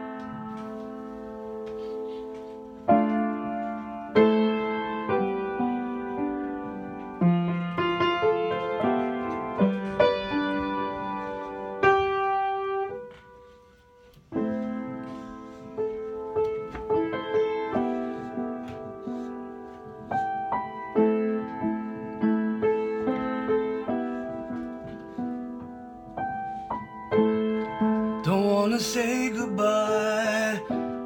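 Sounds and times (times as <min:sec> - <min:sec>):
piano playing slow chords: 0:00.0 - 0:31.0.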